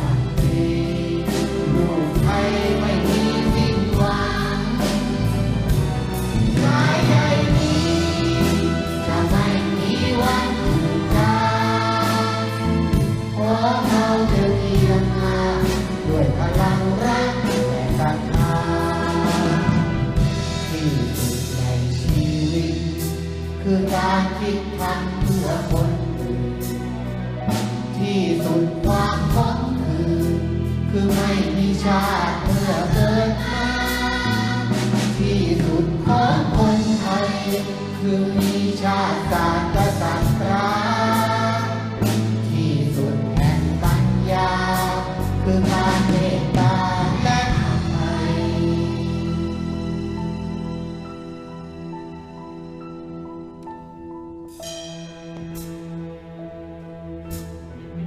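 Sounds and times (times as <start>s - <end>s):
children's choir singing: 0.0s - 50.3s
orchestra with violins: 0.0s - 58.0s.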